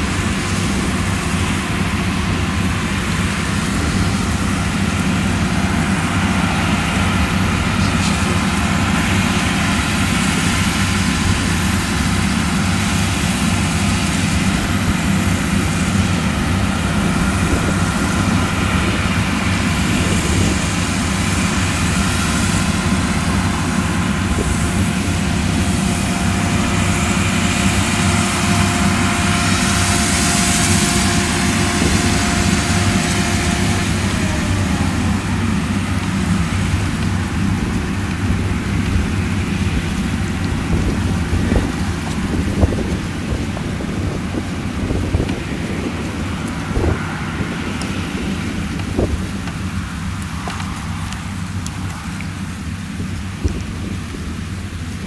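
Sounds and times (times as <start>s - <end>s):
combine harvester running: 0.0s - 55.0s
faint steady whine: 0.0s - 55.0s.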